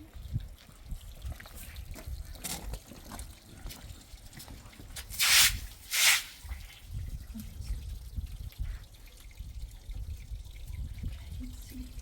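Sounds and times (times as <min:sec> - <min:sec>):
faint water trickling: 0:00.0 - 0:12.0
water gushing: 0:00.9 - 0:12.0.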